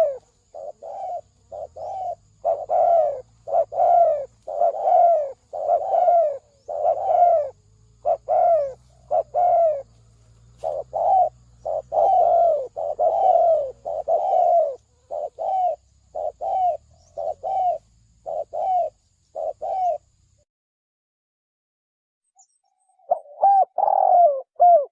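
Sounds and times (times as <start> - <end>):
dove cooing: 0.0 - 20.1, 23.1 - 24.9.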